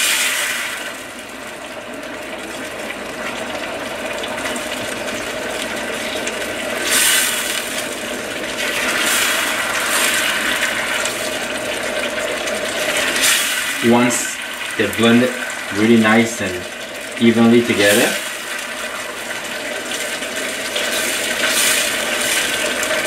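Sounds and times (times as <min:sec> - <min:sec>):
sauce bubbling in a pan: 0:00.0 - 0:23.0.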